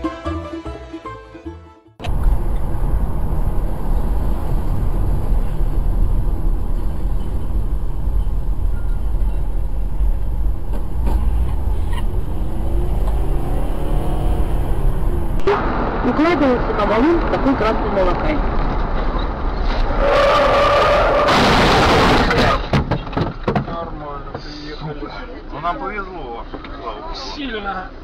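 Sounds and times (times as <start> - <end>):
car engine and road noise: 2.0 - 26.8.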